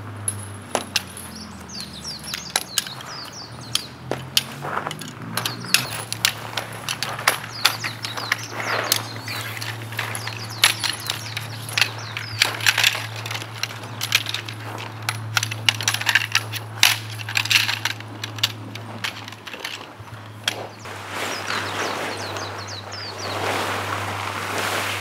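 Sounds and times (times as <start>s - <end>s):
tent pole sections clicking: 0.0s - 25.0s.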